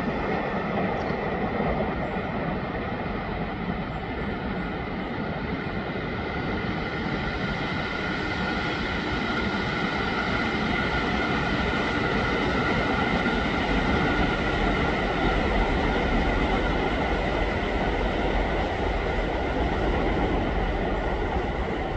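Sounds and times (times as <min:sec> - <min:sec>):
second electric train: 0:00.0 - 0:21.9
train wheels rumbling on rail: 0:00.0 - 0:21.9.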